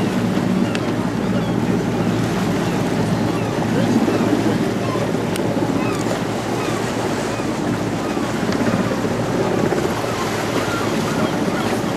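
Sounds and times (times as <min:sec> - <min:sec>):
small waves washing on shore: 0:00.0 - 0:11.9
wind on microphone: 0:00.0 - 0:11.9.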